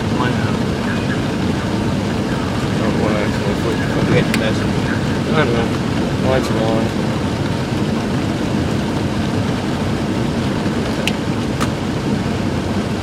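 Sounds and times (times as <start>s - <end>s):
air conditioning blower: 0.0s - 13.0s
car engine idling: 0.0s - 13.0s
rain on car body: 0.0s - 13.0s.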